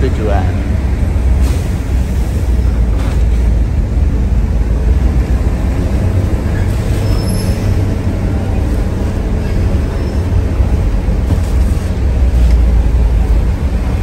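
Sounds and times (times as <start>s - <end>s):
heavy diesel engines rumbling: 0.0s - 14.0s.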